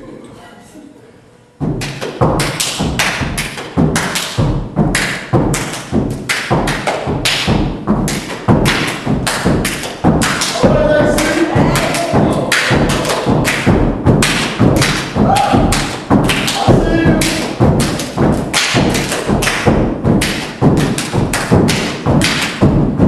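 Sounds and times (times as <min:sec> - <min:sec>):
loud stomps: 0:01.6 - 0:23.0
hand claps: 0:01.8 - 0:23.0.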